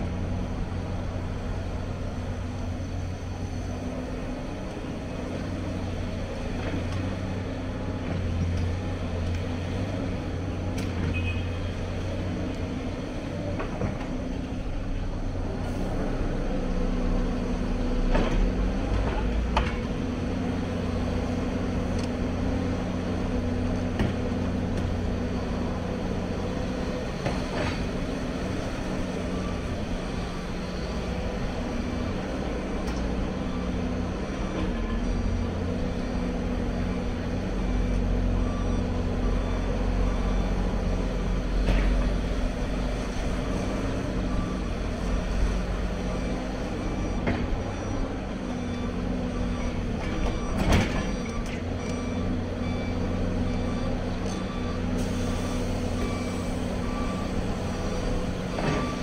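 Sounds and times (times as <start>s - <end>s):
excavator diesel engine droning: 0.0s - 59.0s.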